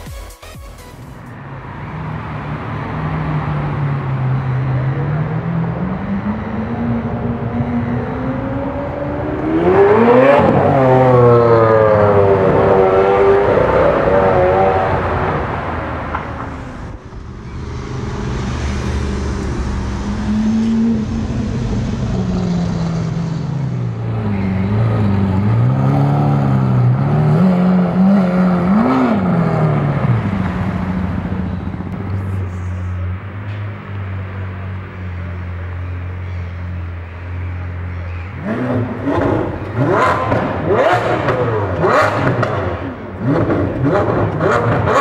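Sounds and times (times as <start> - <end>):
sports car engine revving: 2.8 - 33.2, 35.1 - 45.0.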